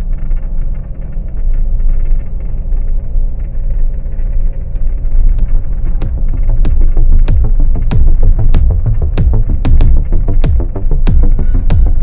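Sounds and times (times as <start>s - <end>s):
road and tyre rumble: 0.0s - 12.0s
sharp regular thumps: 0.0s - 12.0s.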